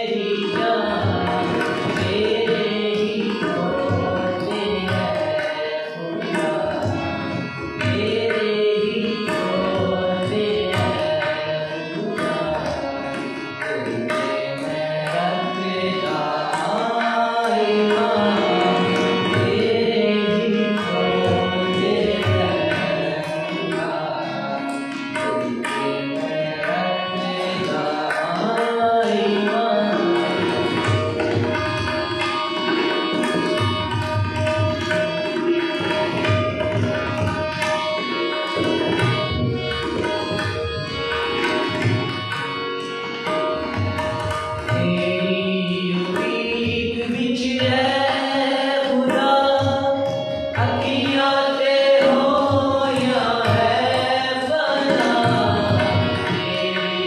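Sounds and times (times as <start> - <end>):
tabla drum: 0.0 - 57.0.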